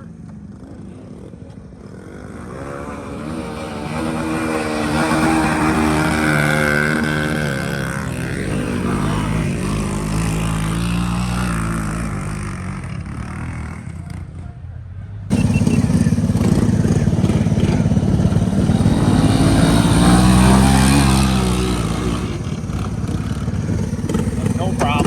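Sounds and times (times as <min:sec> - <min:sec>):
dirt bike engine passing: 0:00.0 - 0:25.0.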